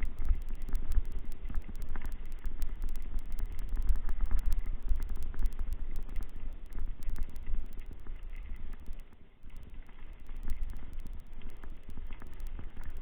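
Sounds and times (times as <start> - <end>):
small clicks and rattles: 0.0 - 13.0.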